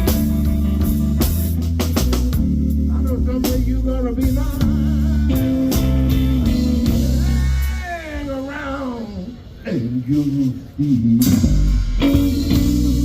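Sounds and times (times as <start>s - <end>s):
electric guitar lead with bent notes: 0.0s - 9.6s, 10.2s - 13.0s
blues band playing: 0.0s - 13.0s.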